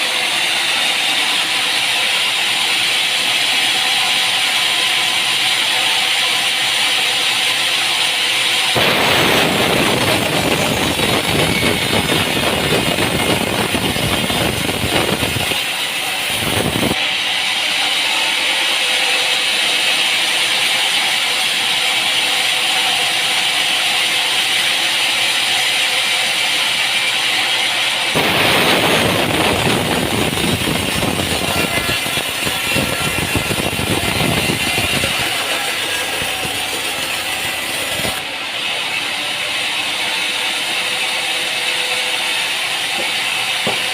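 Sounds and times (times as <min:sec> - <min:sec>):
loud steady machine noise: 0:00.0 - 0:43.9.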